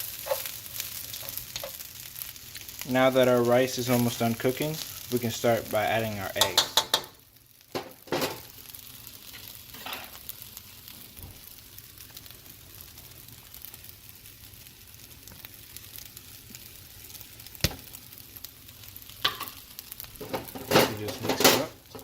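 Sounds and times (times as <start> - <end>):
rice sizzling in a wok: 0.0 - 22.0.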